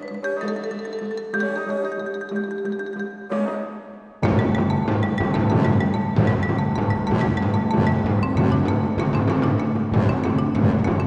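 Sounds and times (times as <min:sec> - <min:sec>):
marimba and orchestra playing softly: 0:00.0 - 0:11.0.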